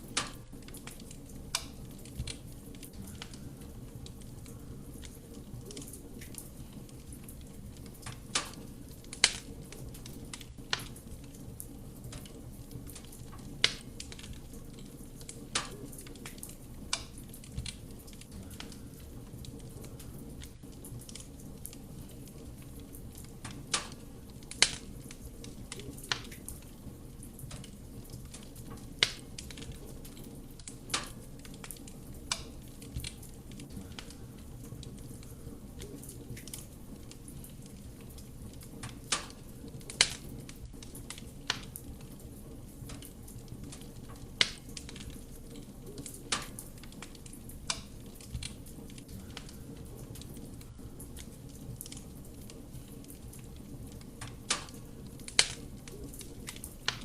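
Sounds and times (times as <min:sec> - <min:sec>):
burning wood crackling and popping: 0:00.0 - 0:57.0
low rumble of fire: 0:00.0 - 0:57.0.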